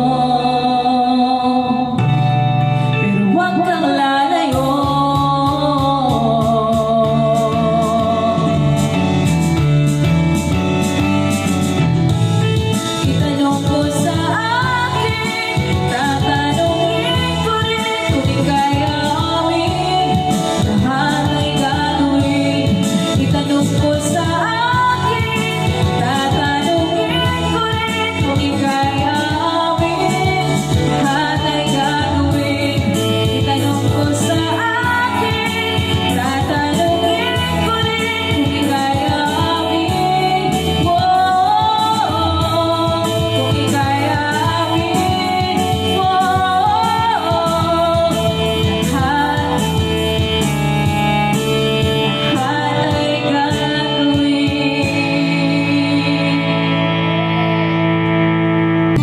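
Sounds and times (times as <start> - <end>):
person singing: 0.0 - 2.2, 2.8 - 9.4, 13.0 - 50.5, 51.4 - 57.8
instrumental backing music: 0.0 - 59.0.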